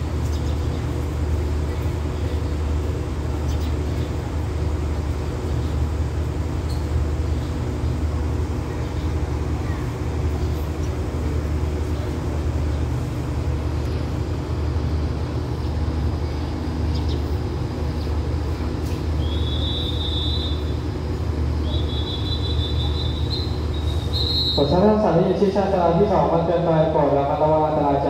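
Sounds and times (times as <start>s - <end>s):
diesel locomotive idling: 0.0s - 28.0s.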